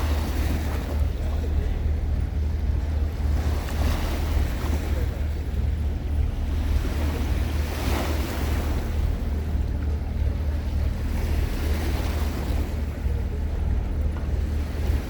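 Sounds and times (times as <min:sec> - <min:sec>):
ferry engine drone: 0:00.0 - 0:15.0
water rushing along hull: 0:00.0 - 0:15.0
wind buffeting microphone: 0:00.0 - 0:15.0.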